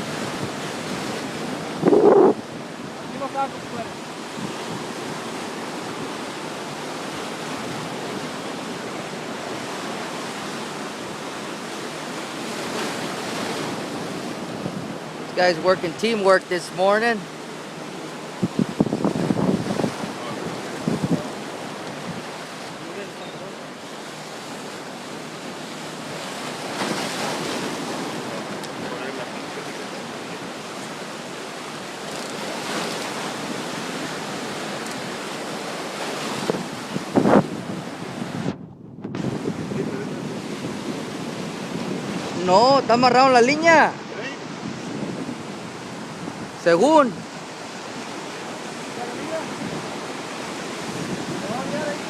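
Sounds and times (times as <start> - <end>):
sea rushing: 0.0 - 52.0
wind: 0.0 - 52.0.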